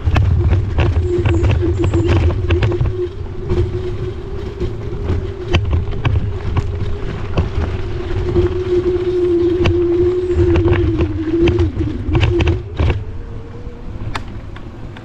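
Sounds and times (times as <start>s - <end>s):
electric motor whine: 0.0s - 15.0s
wind rumbling on microphone: 0.0s - 15.0s.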